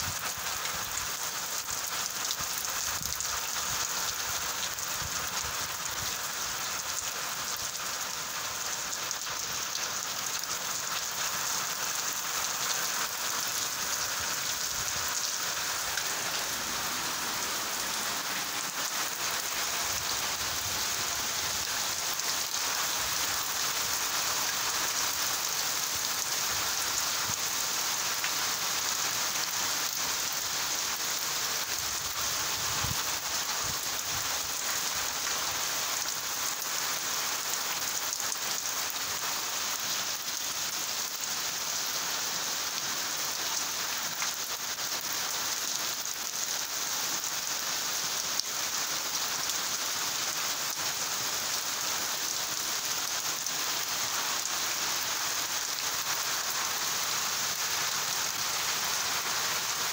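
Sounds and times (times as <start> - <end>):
heavy rain on wet pavement: 0.0 - 59.9.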